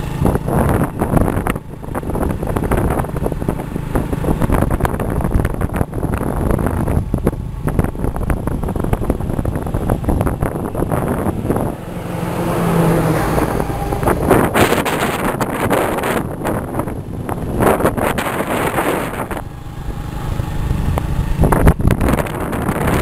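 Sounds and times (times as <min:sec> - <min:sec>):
truck passing: 0:00.0 - 0:23.0
vehicle road and engine noise: 0:00.0 - 0:23.0
wind buffeting microphone: 0:00.0 - 0:23.0.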